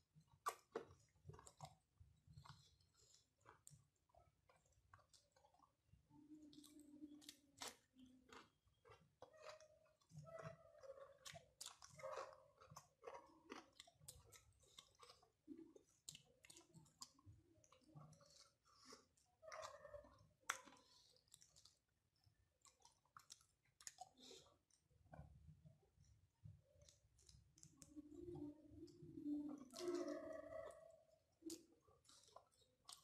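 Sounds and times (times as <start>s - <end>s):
person chewing with mouth clicks: 0.2s - 25.3s, 26.8s - 33.0s.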